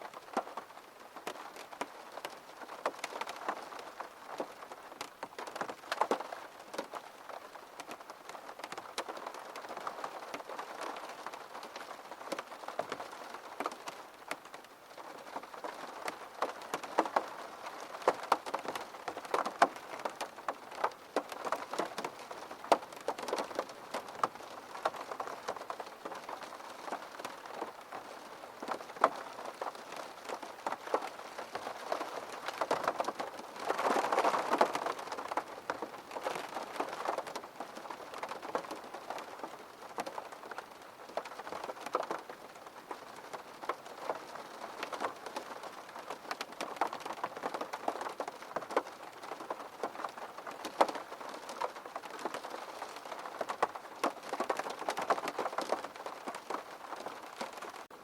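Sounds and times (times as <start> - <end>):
rain drops on hard surface: 0.0 - 58.0.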